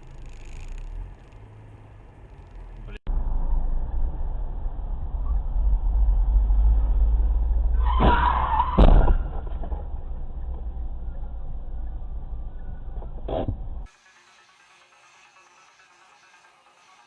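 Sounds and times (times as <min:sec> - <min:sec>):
car engine and road rumble: 0:00.0 - 0:13.9.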